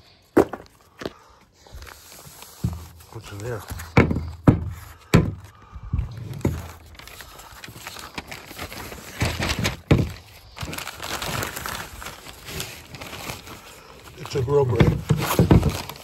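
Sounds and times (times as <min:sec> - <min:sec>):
packaging rustling and crinkling: 0:00.4 - 0:16.0.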